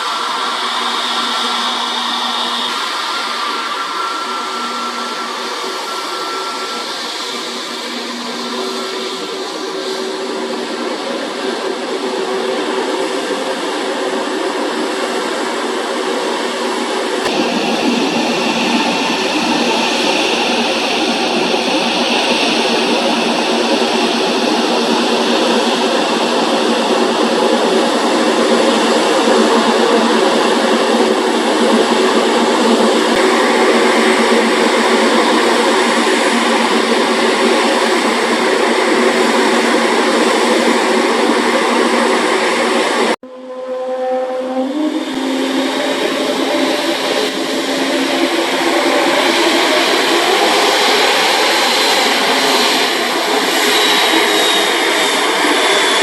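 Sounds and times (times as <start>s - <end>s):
aircraft engines humming: 0.0s - 43.6s, 44.6s - 56.0s.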